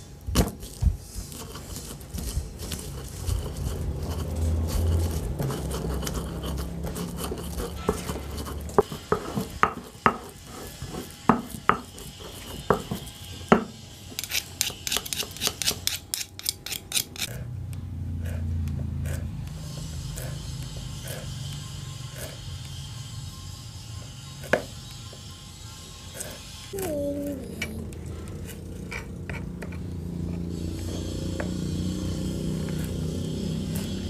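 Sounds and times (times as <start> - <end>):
stone pestle grinding in mortar: 1.2 - 17.5, 18.1 - 22.8, 24.3 - 34.0.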